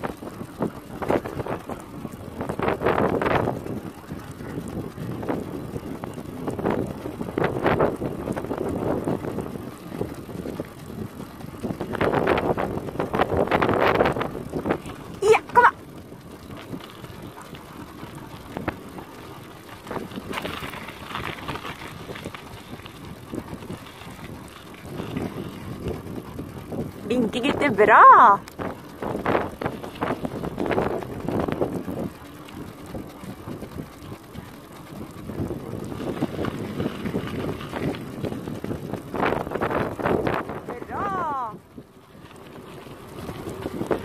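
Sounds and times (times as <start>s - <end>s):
bicycle tyres on gravel: 0.0s - 44.0s.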